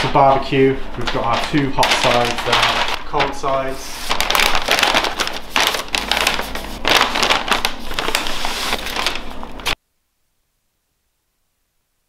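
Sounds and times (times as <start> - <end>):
paper bags rustling: 0.0 - 9.8.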